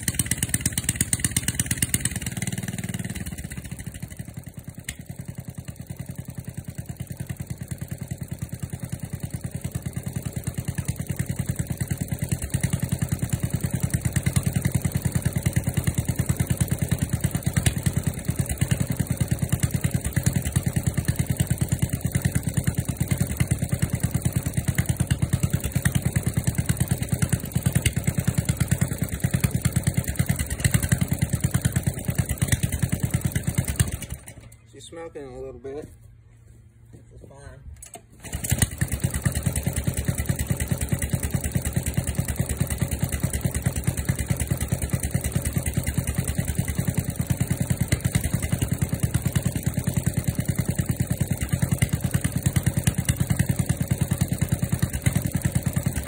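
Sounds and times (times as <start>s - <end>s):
small tractor engine running: 0.0s - 35.6s, 37.6s - 56.0s.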